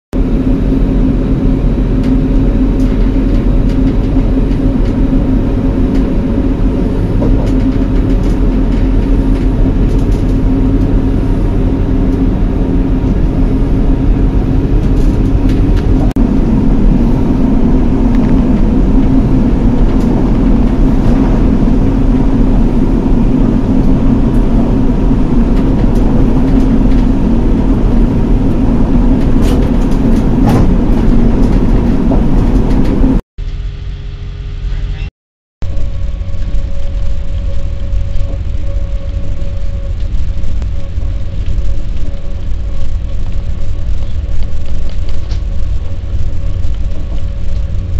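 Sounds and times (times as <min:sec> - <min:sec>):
diesel engine drone: 0:00.1 - 0:47.9
wheel-on-rail rumble: 0:00.2 - 0:47.9.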